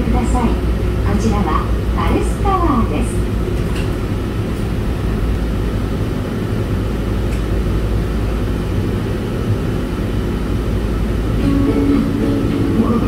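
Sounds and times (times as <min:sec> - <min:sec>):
tram low rumble: 0:00.0 - 0:13.0.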